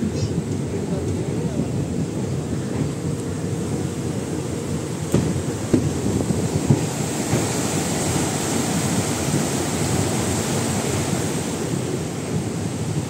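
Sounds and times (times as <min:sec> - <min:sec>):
train rushing over bridge: 0:00.0 - 0:13.0
wind on microphone: 0:00.0 - 0:13.0.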